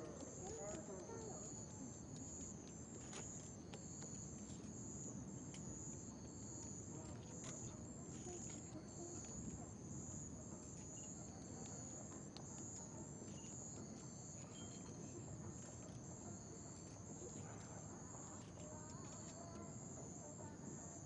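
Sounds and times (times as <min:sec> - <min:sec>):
crickets chirping: 0:00.0 - 0:21.0
faint low city hum: 0:00.0 - 0:21.0.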